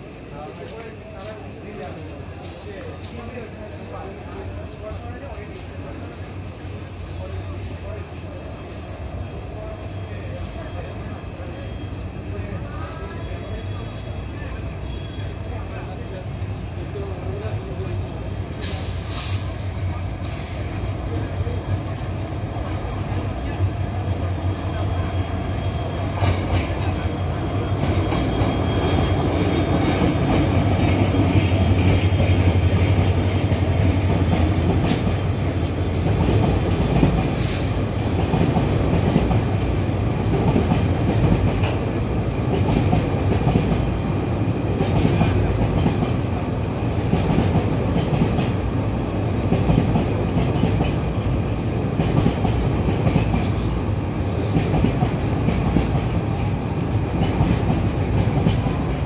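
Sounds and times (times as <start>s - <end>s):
train wheels clattering on rails: 0.0s - 8.8s, 15.8s - 59.0s.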